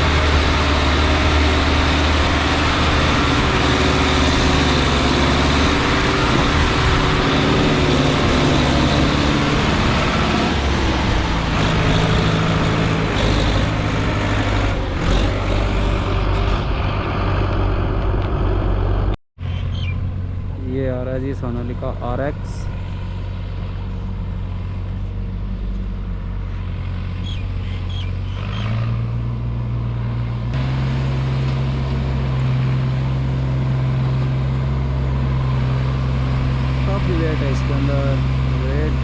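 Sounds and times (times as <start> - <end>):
tractor diesel engine under load: 0.0 - 19.2, 20.0 - 39.0.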